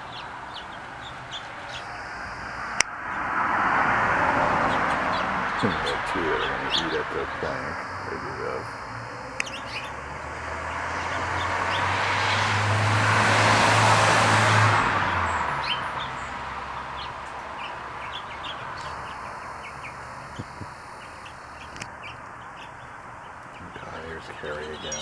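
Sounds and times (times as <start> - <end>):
small birds chirping: 0.0 - 2.8, 4.5 - 12.6, 15.0 - 25.0
car passing by: 0.0 - 22.1.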